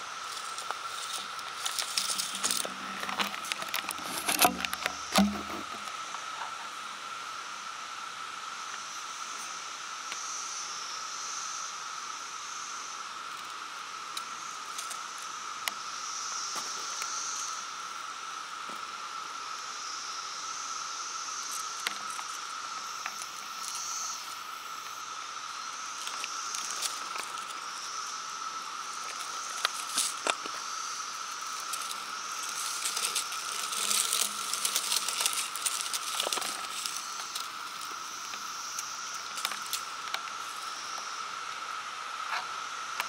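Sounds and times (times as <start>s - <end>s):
high insect buzz: 0.0s - 43.0s
insects trilling: 0.0s - 43.0s.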